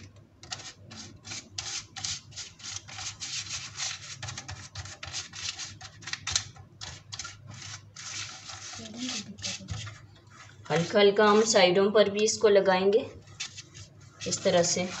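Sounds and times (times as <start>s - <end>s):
pastry brush scratching paper: 0.0s - 11.7s, 13.0s - 15.0s.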